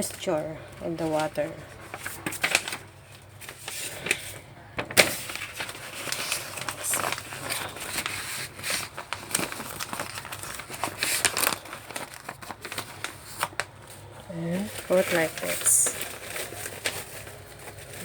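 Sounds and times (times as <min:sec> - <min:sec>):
paper crinkling and rustling: 0:00.0 - 0:18.0.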